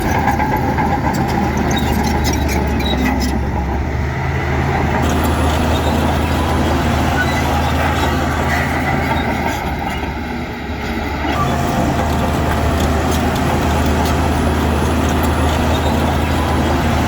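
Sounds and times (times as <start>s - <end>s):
diesel engine of earthmoving machine: 0.0s - 17.0s.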